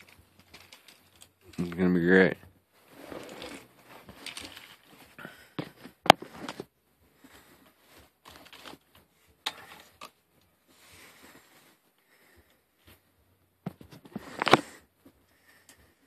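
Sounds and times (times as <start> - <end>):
rustling of handling: 0.0 - 16.0.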